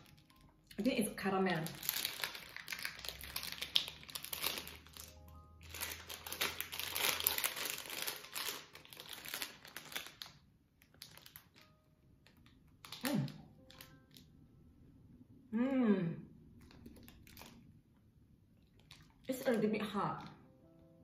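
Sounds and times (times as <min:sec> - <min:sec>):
plastic packet crinkling: 0:00.0 - 0:14.3, 0:16.6 - 0:17.7, 0:18.6 - 0:20.3.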